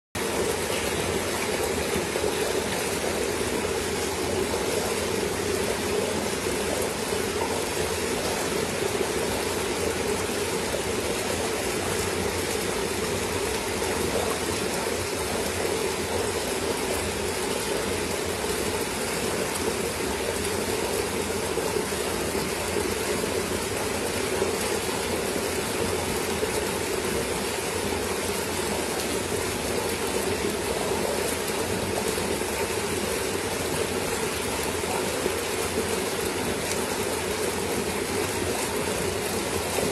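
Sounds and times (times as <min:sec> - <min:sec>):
water splashing and churning: 0:00.2 - 0:39.9.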